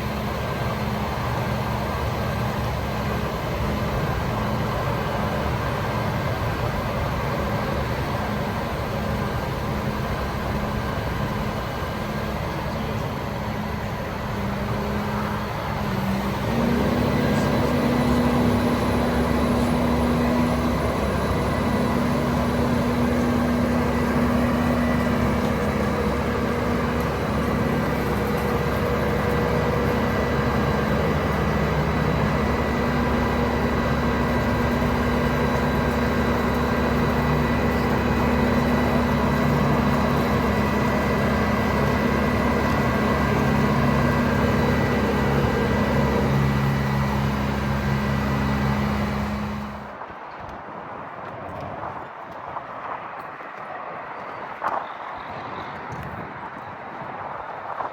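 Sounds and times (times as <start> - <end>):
diesel truck engine running: 0.0 - 50.3.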